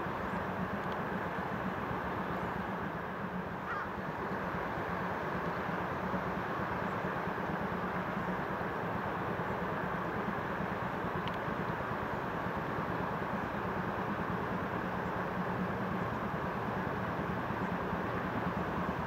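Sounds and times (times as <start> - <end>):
distant steam train rumble: 0.0 - 19.0.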